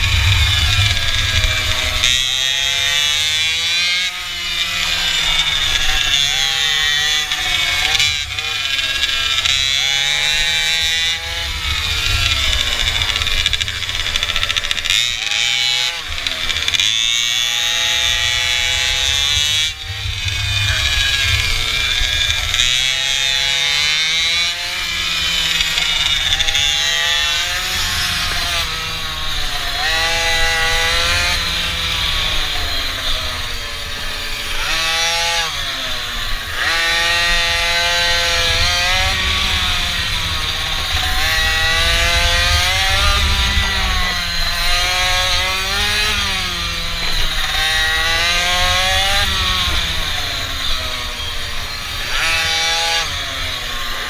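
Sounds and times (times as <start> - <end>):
constant low rumble: 0.0 - 54.0
mini bike engine revving: 0.0 - 54.0.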